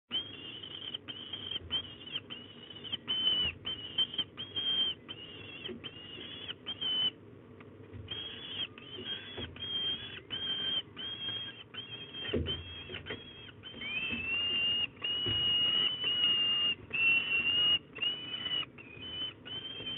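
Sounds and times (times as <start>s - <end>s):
young falcons begging cries: 0.1s - 7.2s, 8.1s - 19.9s.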